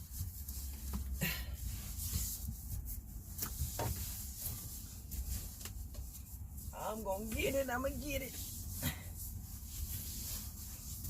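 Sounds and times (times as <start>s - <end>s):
rubbing and scuffing of cover: 0.0s - 11.0s.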